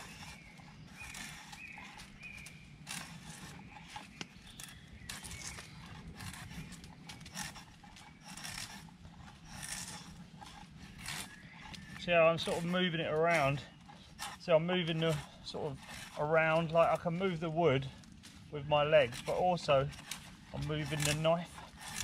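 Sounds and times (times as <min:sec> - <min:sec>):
knife shaving wood rasping: 0:00.0 - 0:22.0.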